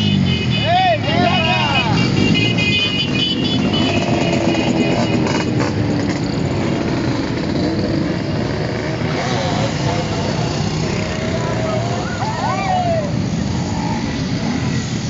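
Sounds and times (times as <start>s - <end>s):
many motorcycle engines running: 0.0s - 15.0s.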